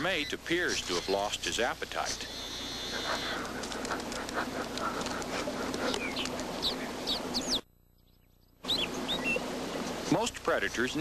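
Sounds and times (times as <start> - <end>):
birds chirping: 0.0 - 11.0
steady background hiss: 0.0 - 11.0.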